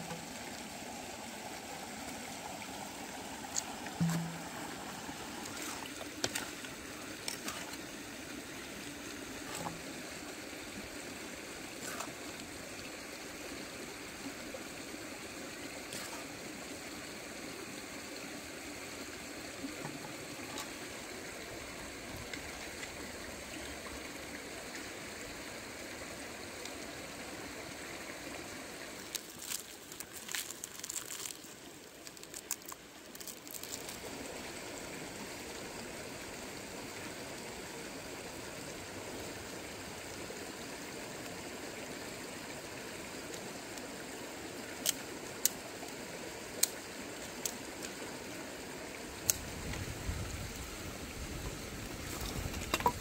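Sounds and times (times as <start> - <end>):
stream rushing: 0.0 - 53.0.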